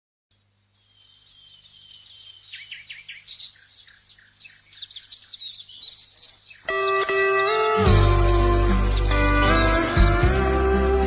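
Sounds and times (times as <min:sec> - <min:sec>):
bird chirping: 0:00.3 - 0:11.0.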